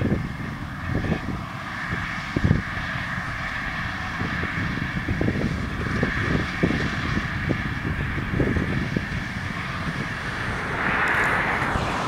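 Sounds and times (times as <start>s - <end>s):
tractor and baler droning: 0.0s - 12.0s.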